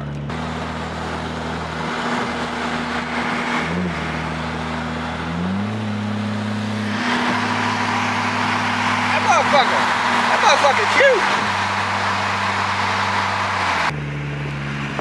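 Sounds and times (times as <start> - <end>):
car engine droning: 0.0 - 15.0
road and tyre noise: 0.0 - 15.0.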